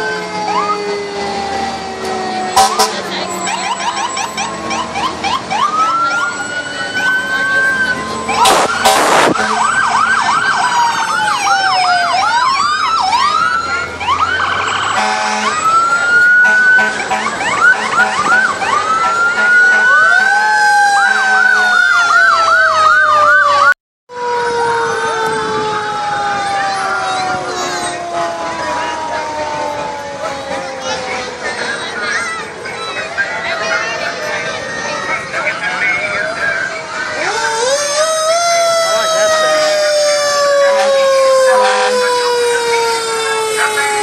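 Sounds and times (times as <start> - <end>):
fire truck sirens wailing and yelping: 0.0 - 44.0.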